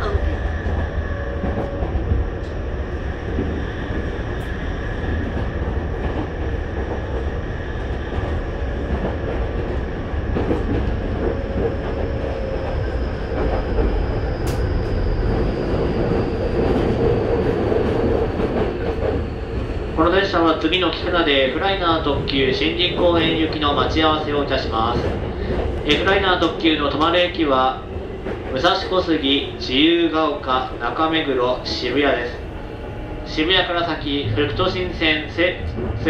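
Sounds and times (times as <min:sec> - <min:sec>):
wheels rumbling on rail: 0:00.0 - 0:36.0.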